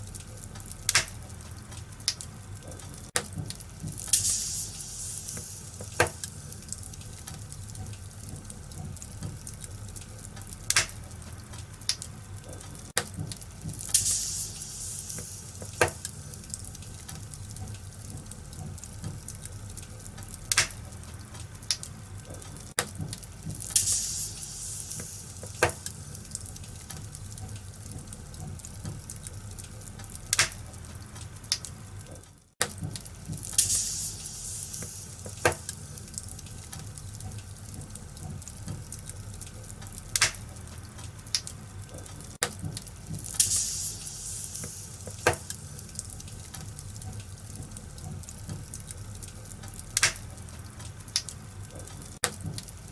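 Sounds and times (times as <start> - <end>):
fire hissing: 0.0 - 32.0, 32.7 - 52.9
wood fire crackling: 0.0 - 52.9.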